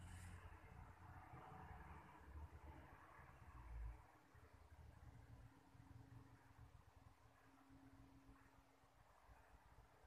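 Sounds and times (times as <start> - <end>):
faint low rumble and hiss: 0.0 - 10.0.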